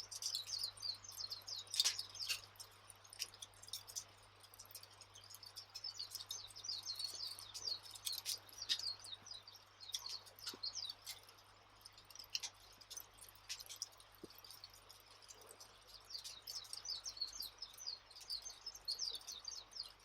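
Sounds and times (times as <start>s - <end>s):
campfire crackling and popping: 0.0s - 20.0s
small birds twittering: 0.0s - 20.0s.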